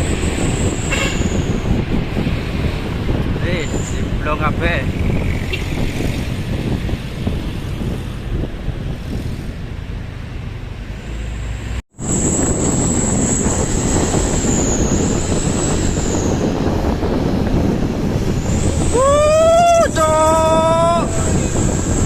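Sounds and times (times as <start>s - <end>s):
road vehicle rumble: 0.0s - 22.0s.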